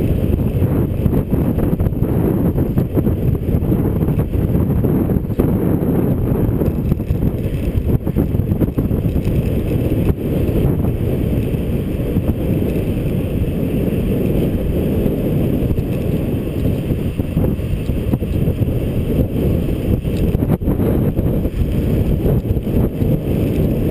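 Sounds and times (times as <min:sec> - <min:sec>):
wind rushing over microphone: 0:00.0 - 0:23.9.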